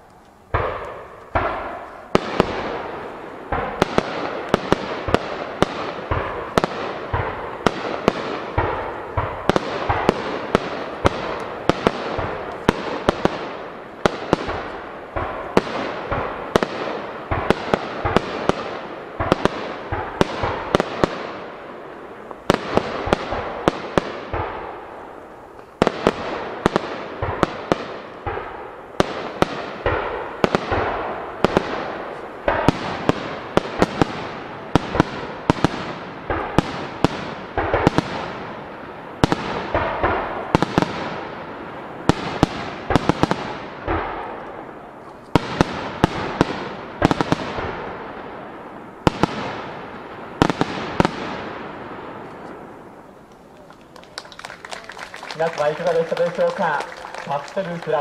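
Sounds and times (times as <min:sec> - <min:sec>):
fireworks bursting with sharp bangs: 0:00.0 - 0:58.0.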